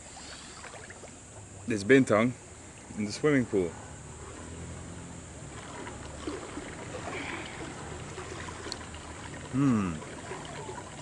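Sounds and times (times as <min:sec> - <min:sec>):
water trickling: 0:00.0 - 0:02.9, 0:04.2 - 0:11.0.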